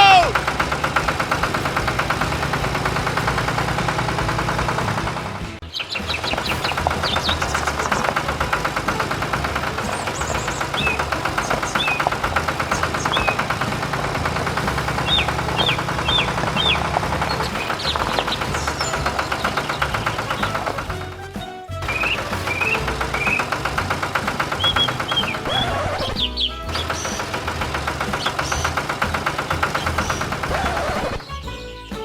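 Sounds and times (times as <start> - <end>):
tractor engine knocking: 0.0 - 32.0.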